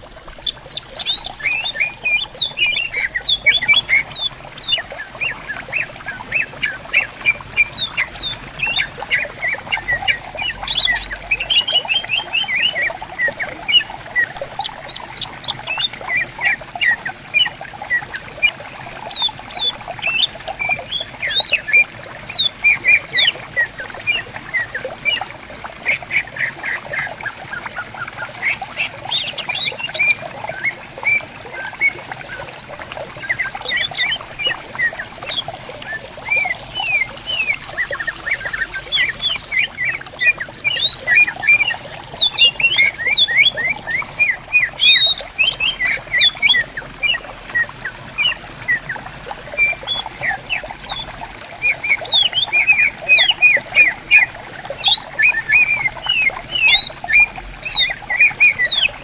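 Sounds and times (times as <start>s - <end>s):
stream trickling: 0.0s - 59.0s
birds singing whistled notes: 0.2s - 59.0s.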